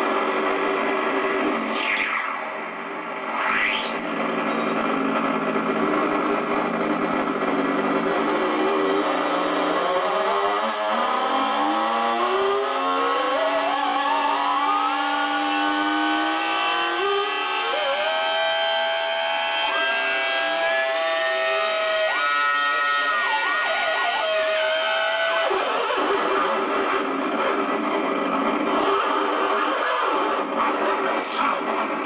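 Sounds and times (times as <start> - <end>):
buzzy synth tones sliding in pitch: 0.1 - 32.0.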